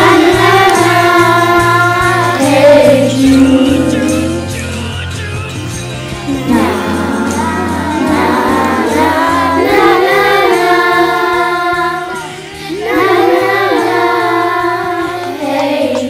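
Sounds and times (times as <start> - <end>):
children's choir singing: 0.0 - 5.2, 6.2 - 16.0
musical accompaniment: 0.0 - 16.0.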